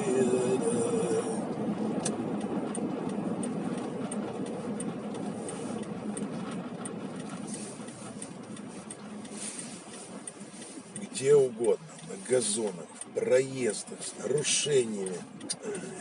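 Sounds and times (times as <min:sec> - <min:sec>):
car interior driving noise: 0:00.0 - 0:16.0
turn signal ticking: 0:00.0 - 0:16.0.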